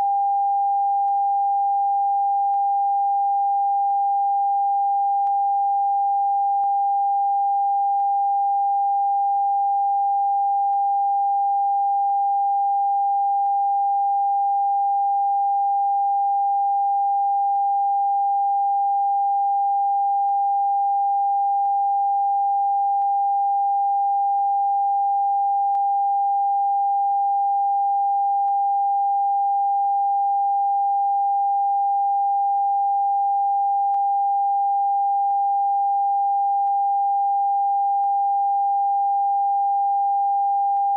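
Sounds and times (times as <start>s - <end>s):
steady pure tone beep: 0.0s - 40.9s.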